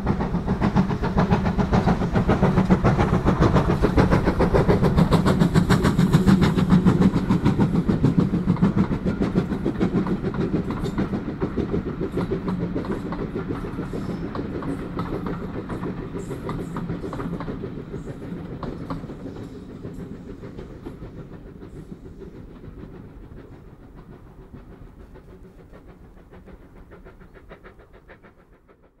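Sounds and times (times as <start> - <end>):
train coaches clattering over rails: 0.0 - 26.4.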